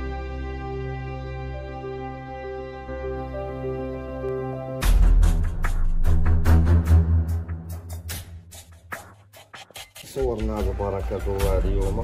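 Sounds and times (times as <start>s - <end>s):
ambient music with held notes: 0.0s - 12.0s.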